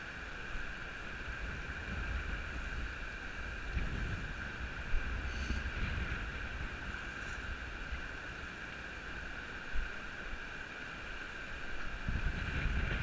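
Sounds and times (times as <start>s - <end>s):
stream rushing over rocks: 0.0s - 13.0s
wind buffeting microphone: 0.6s - 10.0s, 11.7s - 13.0s.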